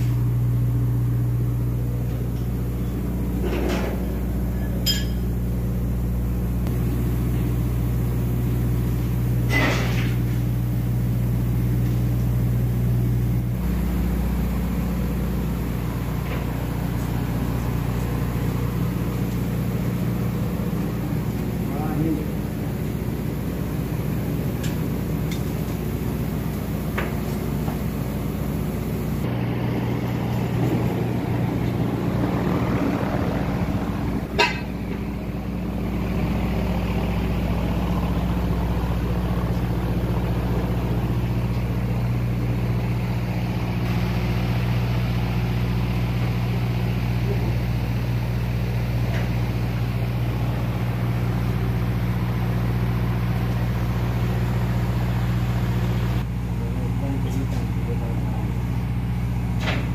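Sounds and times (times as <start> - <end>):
engine-room machinery humming: 0.0 - 59.9.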